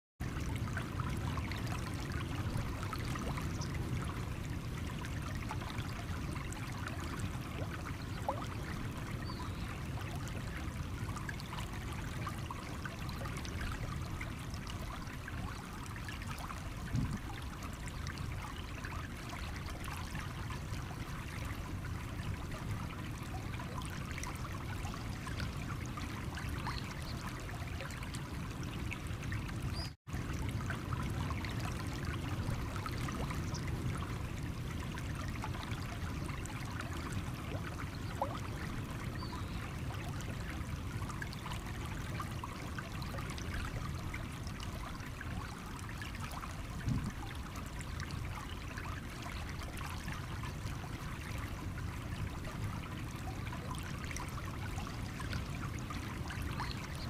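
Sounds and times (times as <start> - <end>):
stream flowing over stones: 0.2 - 57.0.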